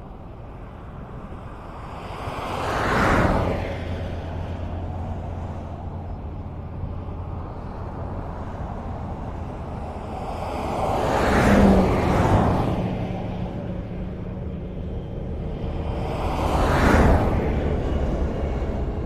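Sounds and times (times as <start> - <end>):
road noise rumble: 0.0 - 19.0
vehicle passing by: 1.8 - 19.0.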